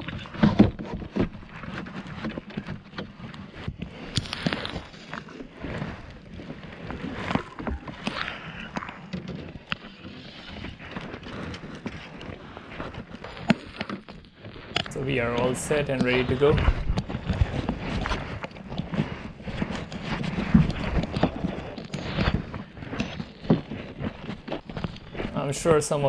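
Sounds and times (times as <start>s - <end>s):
gear clicks and knocks: 0.0s - 26.0s
rustling: 0.0s - 26.0s.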